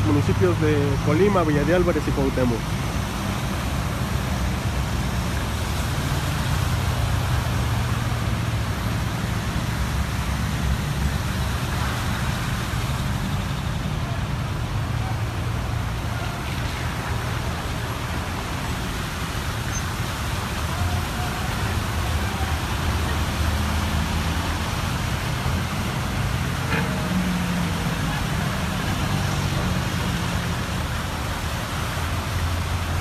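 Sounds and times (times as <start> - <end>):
car engines at low speed: 0.0 - 33.0
tyres moving through water: 0.0 - 33.0.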